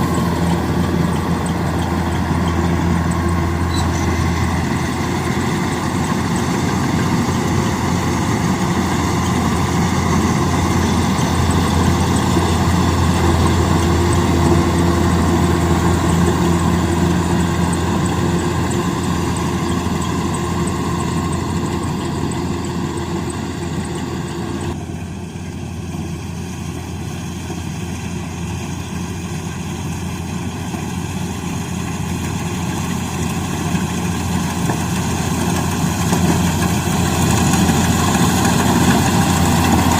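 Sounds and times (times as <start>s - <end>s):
harvester engine deep hum: 0.0s - 39.9s.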